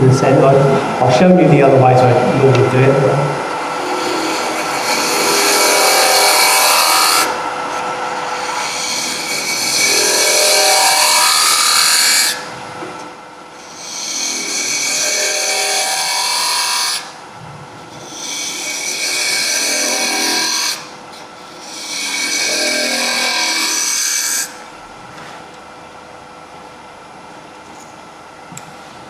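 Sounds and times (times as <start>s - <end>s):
lathe motor humming: 0.0s - 24.8s
lathe tool cutting wood: 0.0s - 24.8s.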